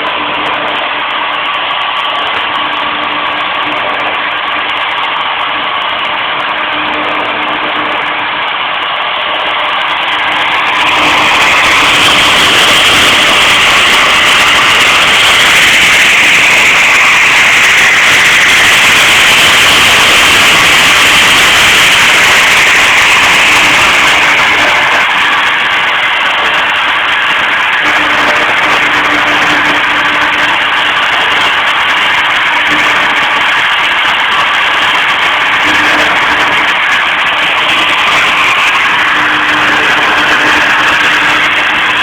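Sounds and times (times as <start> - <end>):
milling machine motor running: 0.0 - 42.0.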